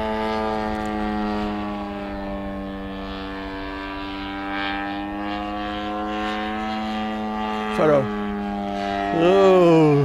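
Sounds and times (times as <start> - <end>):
model airplane engine drone: 0.0 - 10.0.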